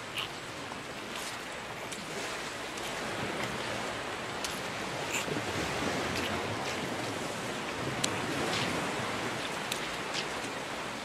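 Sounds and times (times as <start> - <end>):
surf washing on beach: 0.0 - 11.0.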